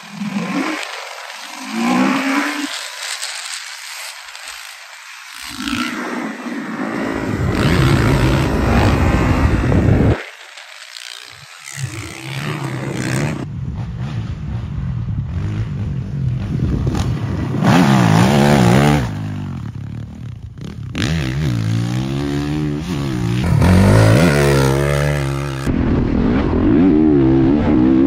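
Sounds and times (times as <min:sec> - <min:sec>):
dirt bike engine revving: 0:00.0 - 0:25.8.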